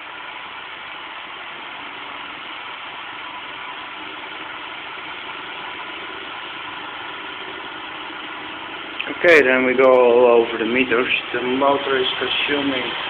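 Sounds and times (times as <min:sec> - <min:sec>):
electric motor whirring: 0:00.1 - 0:13.0.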